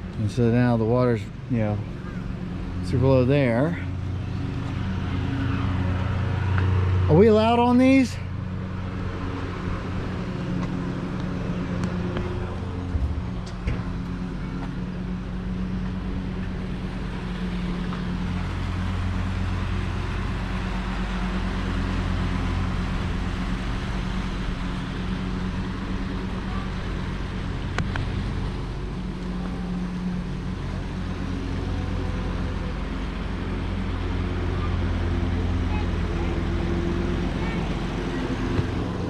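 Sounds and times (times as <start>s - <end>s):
low motor hum: 0.0s - 39.0s.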